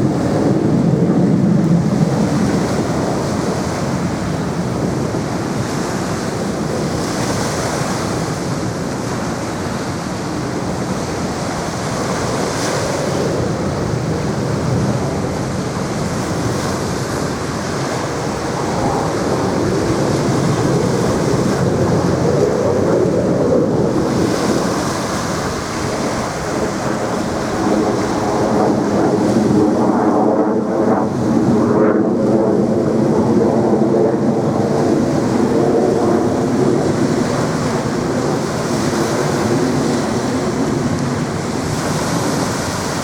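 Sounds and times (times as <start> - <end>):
jet engines rumbling overhead: 0.0 - 43.0
wind buffeting microphone: 0.0 - 43.0.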